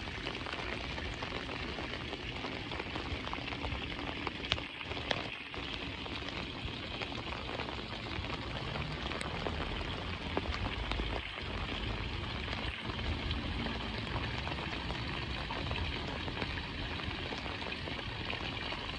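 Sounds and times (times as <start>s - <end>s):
steady rain hiss: 0.0s - 18.9s.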